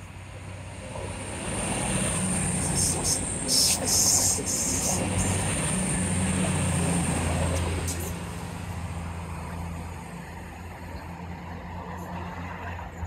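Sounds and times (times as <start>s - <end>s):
diesel train engine drone: 0.0s - 13.0s.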